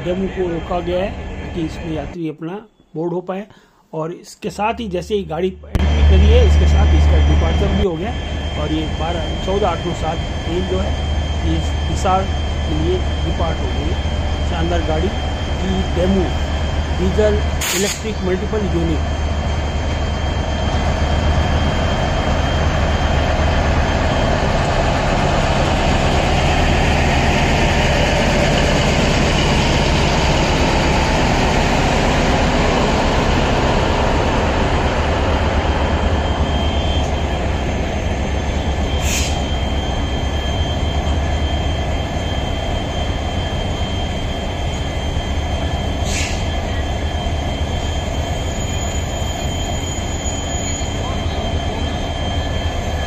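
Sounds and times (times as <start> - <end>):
diesel engine humming: 4.8 - 53.0
high wheel squeals: 6.2 - 53.0.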